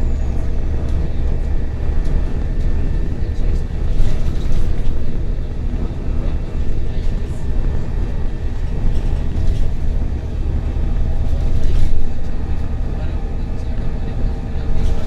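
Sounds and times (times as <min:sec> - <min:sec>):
bus engine and road drone: 0:00.0 - 0:15.0.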